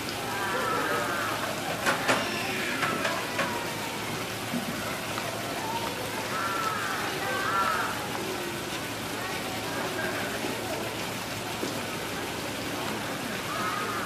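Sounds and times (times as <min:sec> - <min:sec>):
steady watery hiss: 0:00.0 - 0:14.0.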